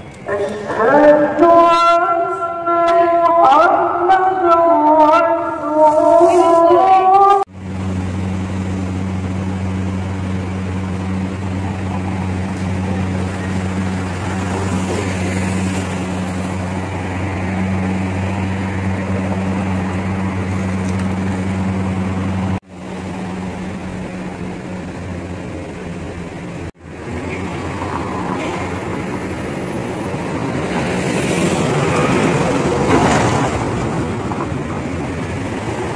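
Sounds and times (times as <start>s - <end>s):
city traffic engines humming: 0.0s - 35.9s.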